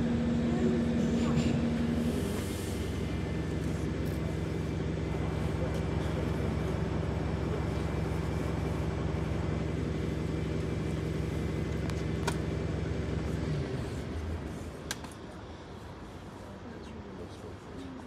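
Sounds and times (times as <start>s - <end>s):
engine idling: 0.0s - 16.6s.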